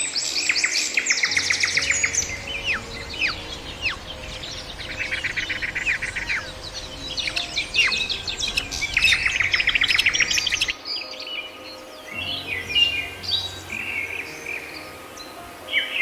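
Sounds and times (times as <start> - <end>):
songbirds whistling and trilling: 0.0 - 16.0.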